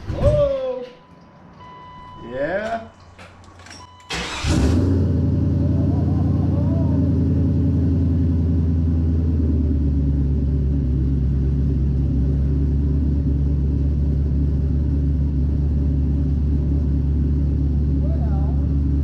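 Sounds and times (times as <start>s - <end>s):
car engine idling: 1.0s - 19.0s.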